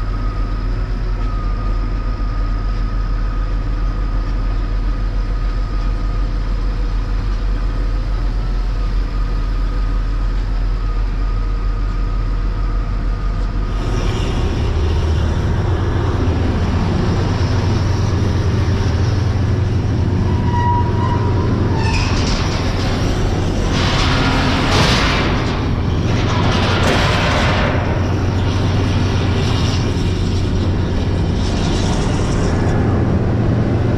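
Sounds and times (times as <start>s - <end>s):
diesel engine running: 0.0s - 33.9s
rough engine drone: 0.0s - 33.9s.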